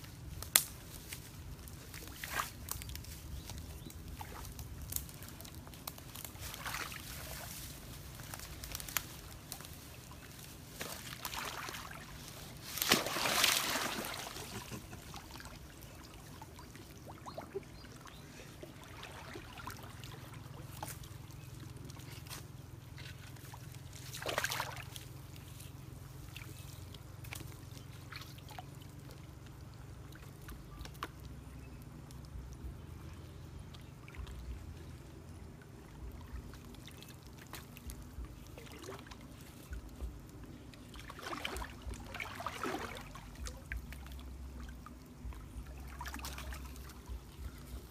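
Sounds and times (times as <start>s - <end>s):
stream water trickling: 0.8s - 47.9s
water splashes: 0.8s - 47.9s.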